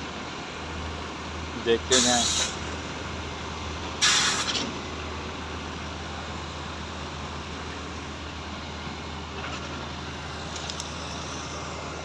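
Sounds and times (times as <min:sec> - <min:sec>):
heavy machinery engines droning: 0:00.0 - 0:12.0.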